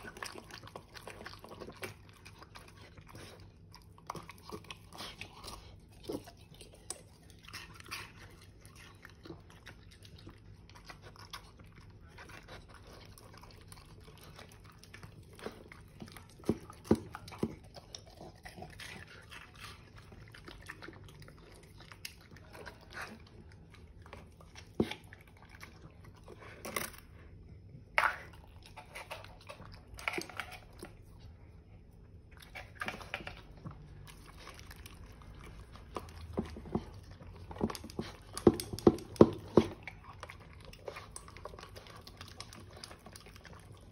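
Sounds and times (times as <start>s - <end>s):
dog chewing and crunching: 0.0s - 43.9s.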